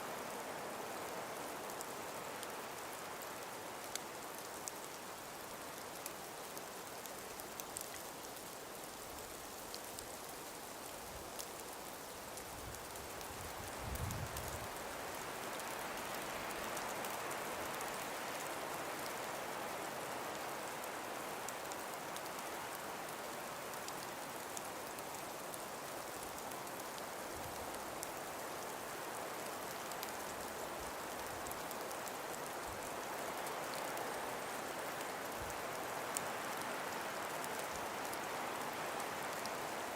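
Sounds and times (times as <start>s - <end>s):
breeze blowing through trees: 0.0s - 39.9s.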